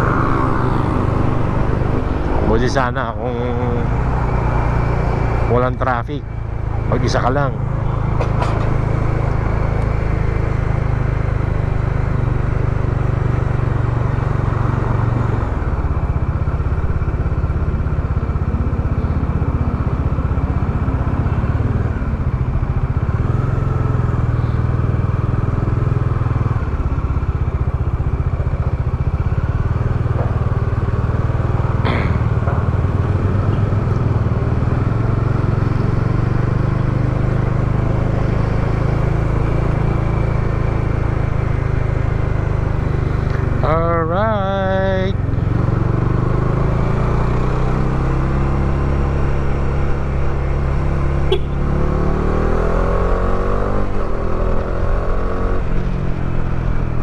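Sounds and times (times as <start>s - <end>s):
motorcycle engine rumble: 0.0s - 57.0s
wind and road noise: 0.0s - 57.0s.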